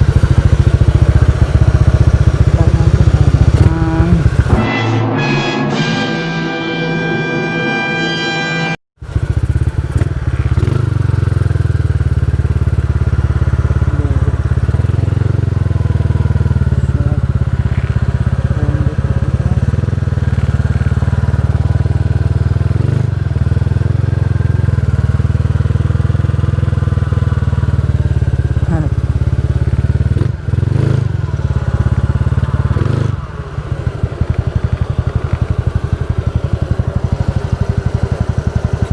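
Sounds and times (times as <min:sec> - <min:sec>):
motorcycle engine running: 0:00.0 - 0:05.4, 0:09.0 - 0:38.9.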